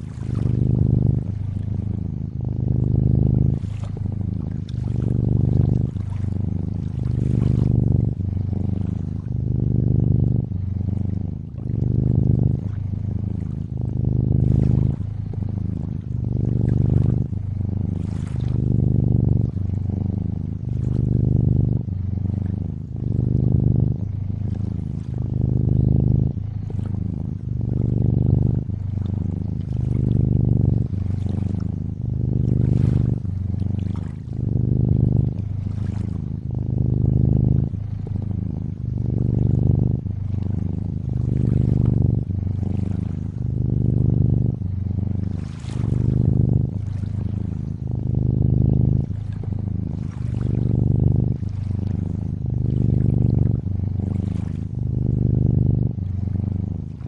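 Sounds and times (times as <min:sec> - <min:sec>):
water lapping and trickling: 0:00.0 - 0:02.8, 0:03.5 - 0:09.6, 0:10.5 - 0:19.8, 0:20.5 - 0:21.4, 0:24.2 - 0:25.9, 0:26.6 - 0:36.6, 0:40.3 - 0:44.1, 0:44.9 - 0:48.2, 0:48.8 - 0:55.4, 0:56.0 - 0:57.0
cat purring: 0:00.0 - 0:57.0.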